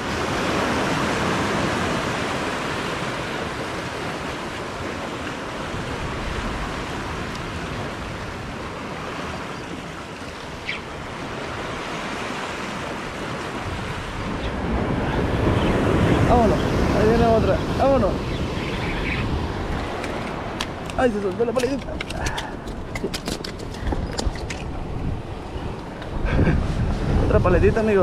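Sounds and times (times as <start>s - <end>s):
surf washing over rocks: 0.0s - 28.0s.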